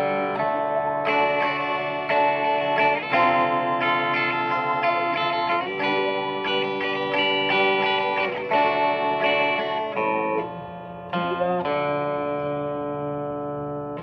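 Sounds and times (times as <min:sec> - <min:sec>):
electric guitar with reverb: 0:00.0 - 0:14.0.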